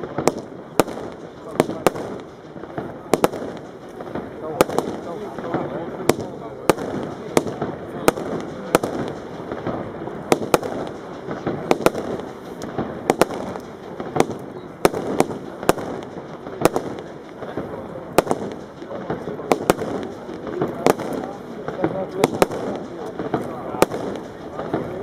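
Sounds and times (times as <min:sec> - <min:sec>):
firework cake bangs: 0:00.0 - 0:25.0.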